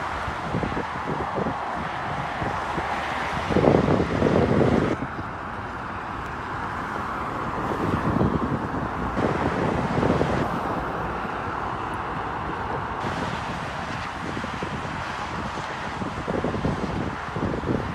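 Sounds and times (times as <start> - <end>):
vehicle road and wind noise: 0.0 - 17.9.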